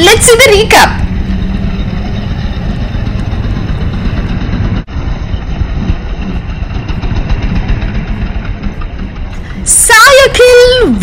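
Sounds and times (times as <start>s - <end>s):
go-kart engines droning: 0.2s - 10.3s.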